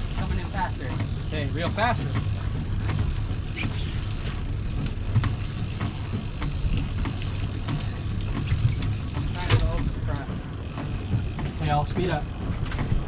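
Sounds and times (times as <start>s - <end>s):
boat engine droning: 0.0s - 13.0s
short ticks and knocks: 0.2s - 13.0s.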